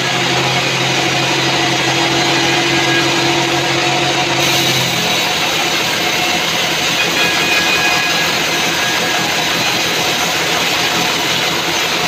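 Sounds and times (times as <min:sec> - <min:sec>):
sawmill machine hum: 0:00.0 - 0:12.0.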